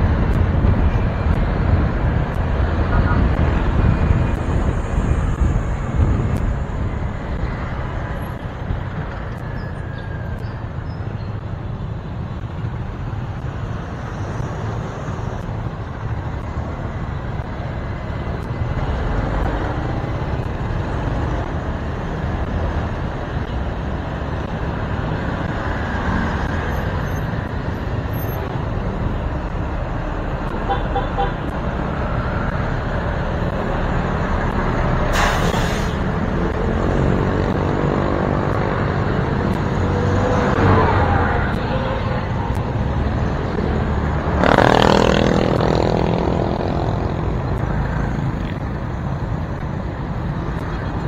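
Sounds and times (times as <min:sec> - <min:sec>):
motorcycle engine and road rumble: 0:00.0 - 0:51.0
passing cars trucks and bus: 0:00.0 - 0:51.0.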